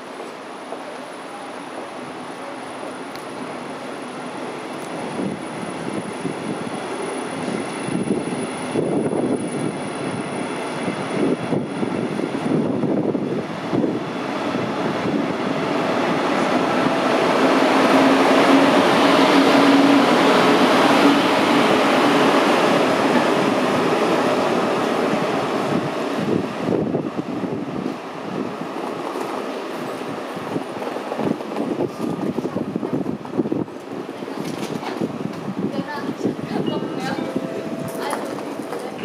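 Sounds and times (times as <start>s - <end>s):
train rolling noise: 0.0s - 39.0s.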